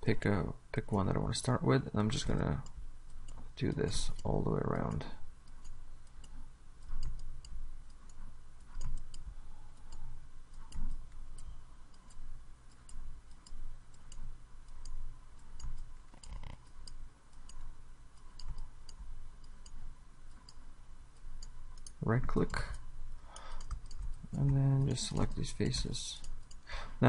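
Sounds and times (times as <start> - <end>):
computer mouse clicking: 2.0 - 26.7.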